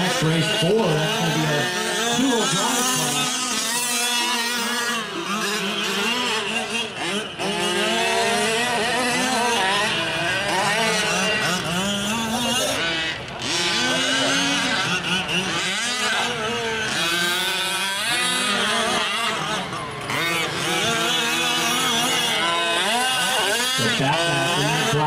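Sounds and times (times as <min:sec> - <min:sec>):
small two-stroke engines revving: 0:00.0 - 0:25.0.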